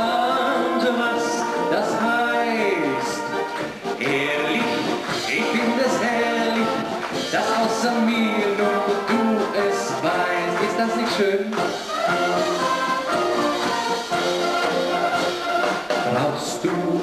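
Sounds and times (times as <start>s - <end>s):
brass band playing polka: 0.0s - 17.0s.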